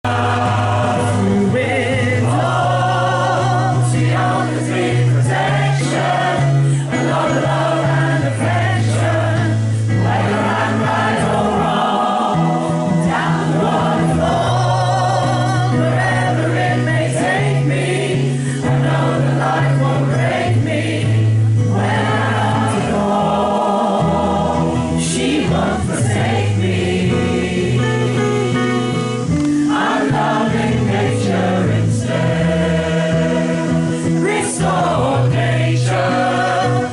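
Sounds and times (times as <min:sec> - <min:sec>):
choir singing: 0:00.0 - 0:36.9.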